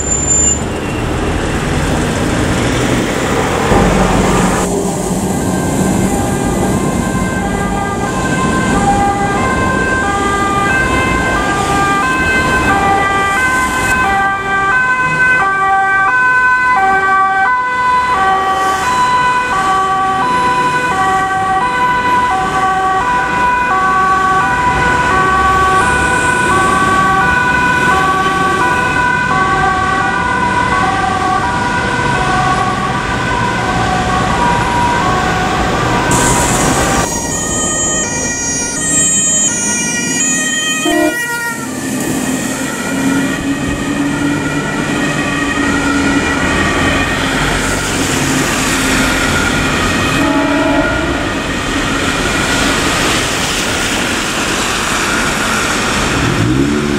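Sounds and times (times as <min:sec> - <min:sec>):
passing road traffic: 0:00.0 - 0:56.9
two-tone sirens: 0:00.0 - 0:56.9.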